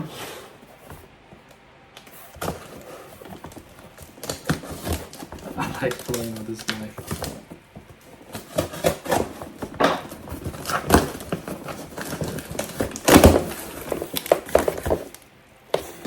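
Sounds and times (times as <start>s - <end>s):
packaging crinkling and rustling: 2.0s - 16.0s.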